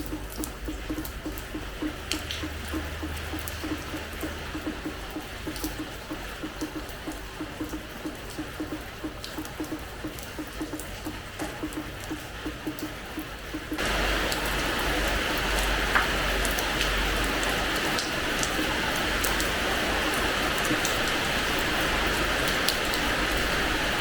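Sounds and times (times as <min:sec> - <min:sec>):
rain on a hard floor: 0:00.0 - 0:24.0.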